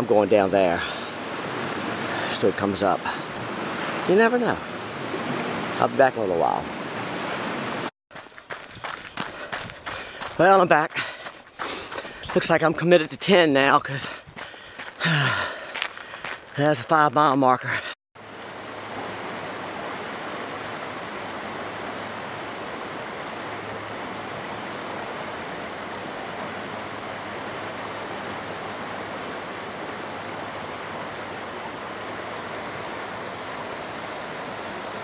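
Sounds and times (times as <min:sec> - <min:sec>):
river water rushing: 0:00.0 - 0:14.2, 0:18.2 - 0:35.0.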